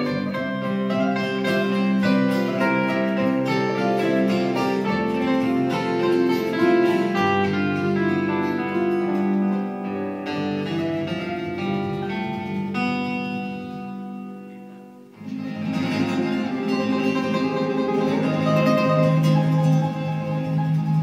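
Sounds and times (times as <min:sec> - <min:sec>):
acoustic guitars playing: 0:00.0 - 0:21.0.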